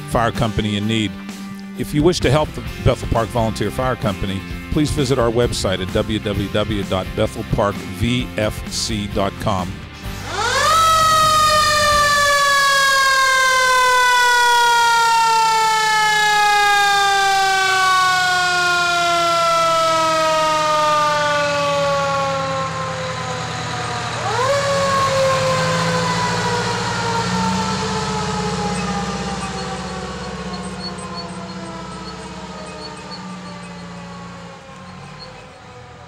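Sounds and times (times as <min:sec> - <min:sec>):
fire engine siren wailing: 0:00.0 - 0:36.0
truck engine running low: 0:00.0 - 0:36.0.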